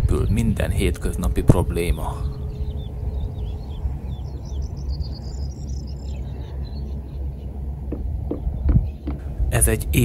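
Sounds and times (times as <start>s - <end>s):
small birds chirping and twittering: 0.0s - 10.0s
steady low rumble: 0.0s - 10.0s.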